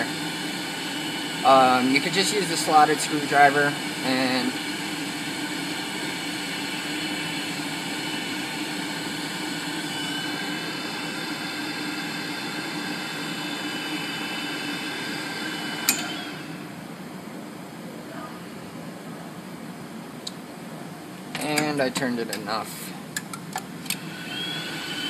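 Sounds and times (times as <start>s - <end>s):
burner and blower running: 0.0s - 25.0s.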